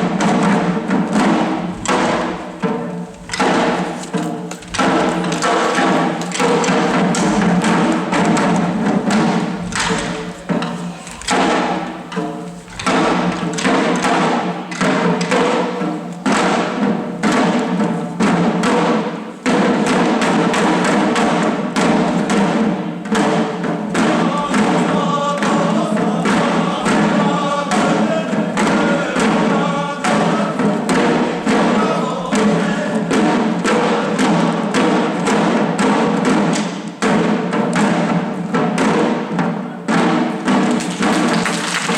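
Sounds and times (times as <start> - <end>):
chorus chanting: 0.0 - 41.9
drums beating in steady rhythm: 0.0 - 41.9.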